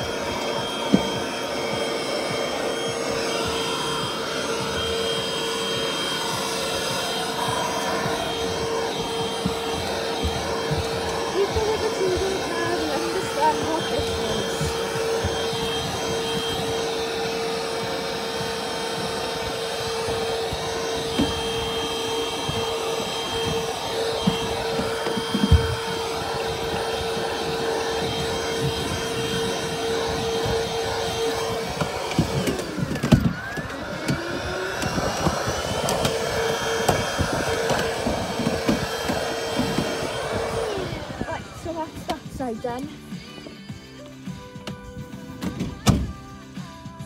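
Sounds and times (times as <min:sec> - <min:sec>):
vacuum cleaner whining: 0:00.0 - 0:47.0.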